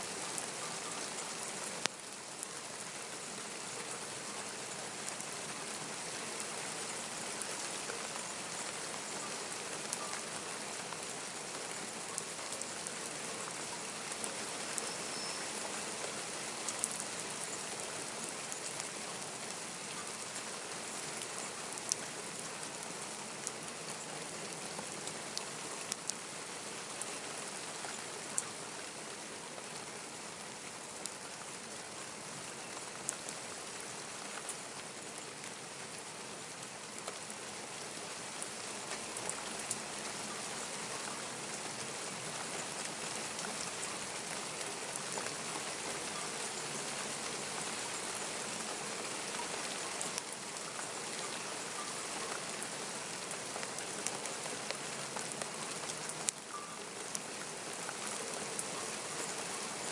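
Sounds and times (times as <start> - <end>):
raindrops ticking close by: 0.0 - 59.9
steady rain: 0.0 - 59.9.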